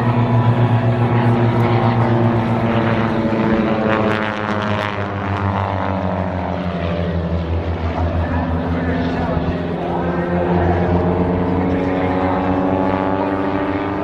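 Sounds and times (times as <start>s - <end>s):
propeller plane engine passing by: 0.0s - 14.0s.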